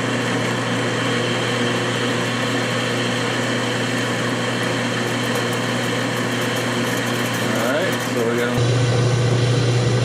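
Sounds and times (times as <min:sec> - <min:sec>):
metal lathe humming: 0:00.0 - 0:10.0.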